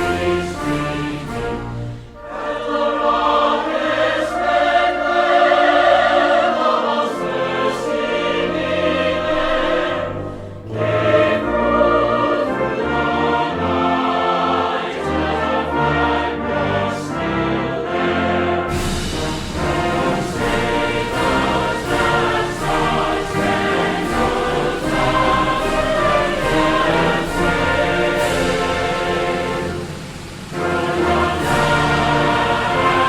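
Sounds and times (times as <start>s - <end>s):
choir singing: 0.0s - 33.0s
orchestra playing: 0.0s - 33.0s.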